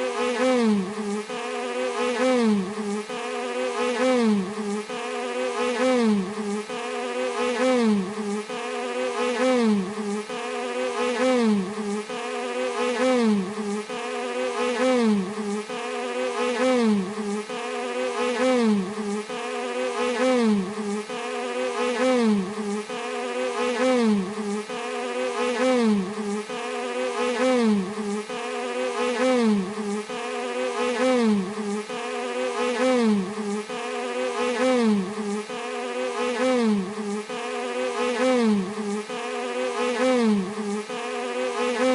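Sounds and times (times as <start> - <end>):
bee buzzing: 0.0 - 41.9.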